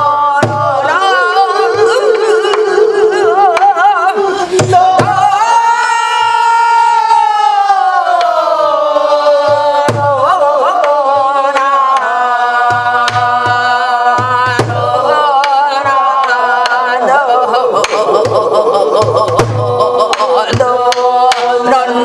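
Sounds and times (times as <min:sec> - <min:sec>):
woman singing wordless melody: 0:00.0 - 0:22.0.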